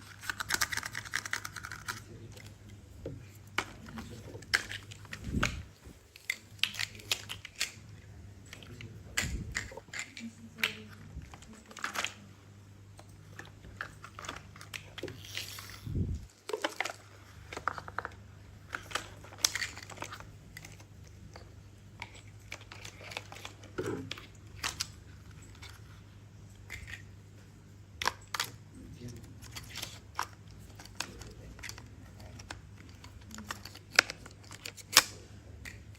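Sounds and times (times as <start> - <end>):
plastic toys clicking and clattering: 0.0 - 12.3, 13.0 - 27.1, 27.9 - 35.9
steady low hum: 0.0 - 35.9.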